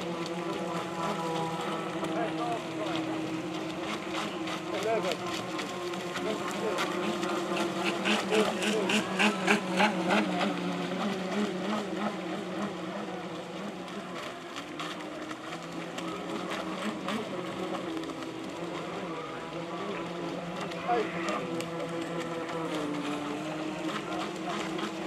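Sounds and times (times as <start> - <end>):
electric model boat motors whining: 0.0 - 25.0.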